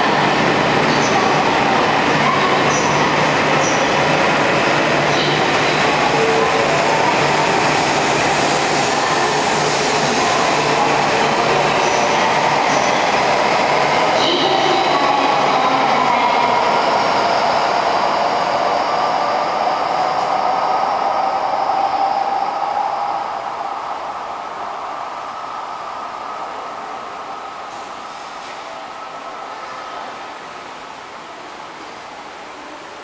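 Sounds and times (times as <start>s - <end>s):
train rushing past: 0.0s - 31.0s.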